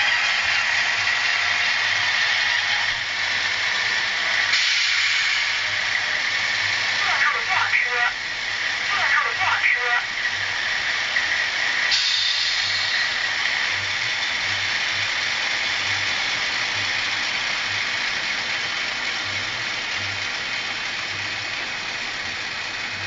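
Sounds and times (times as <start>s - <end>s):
diesel engine sound through speakers: 0.0s - 23.0s.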